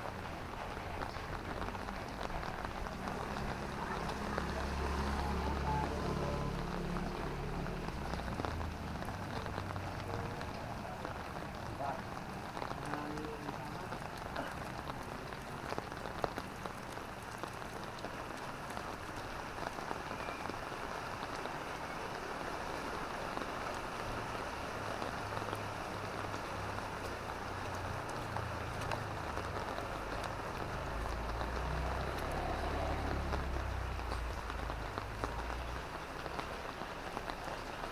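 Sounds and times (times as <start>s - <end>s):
light rain pattering: 0.0s - 37.9s.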